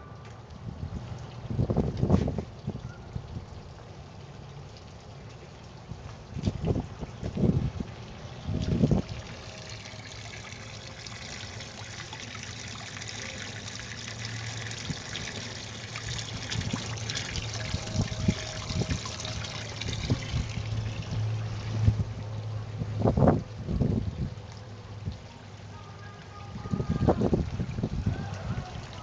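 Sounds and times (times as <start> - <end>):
water splashing and trickling: 0.0 - 29.0.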